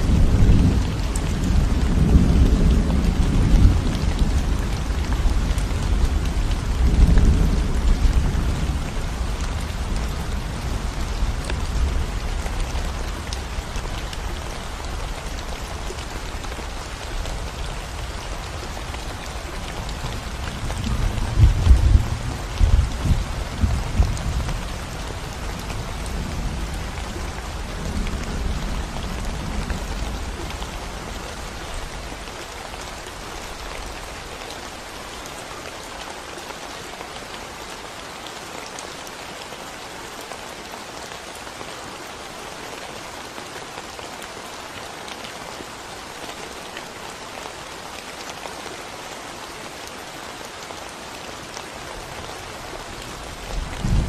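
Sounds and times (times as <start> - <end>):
rain on concrete road: 0.0 - 54.0.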